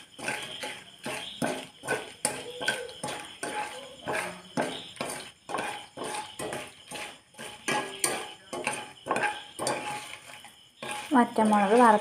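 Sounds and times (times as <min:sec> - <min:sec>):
chillies frying in oil: 0:00.0 - 0:12.0
metal skimmer knocking on pan: 0:00.2 - 0:10.1.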